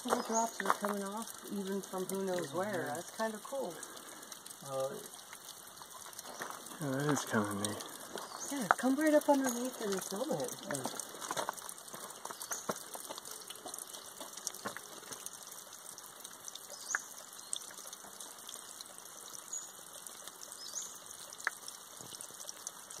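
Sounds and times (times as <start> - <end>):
water drops splashing: 0.0 - 18.9
hiss of falling water: 0.0 - 23.0.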